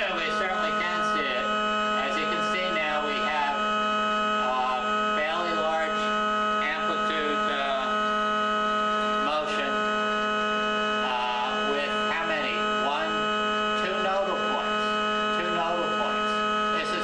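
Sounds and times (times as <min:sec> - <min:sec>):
sheet metal buzzing hum: 0:00.0 - 0:17.0.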